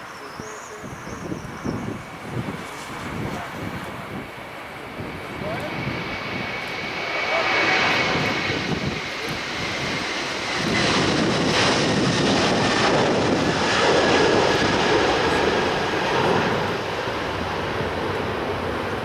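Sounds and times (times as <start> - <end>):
jet engines passing: 0.0 - 19.0.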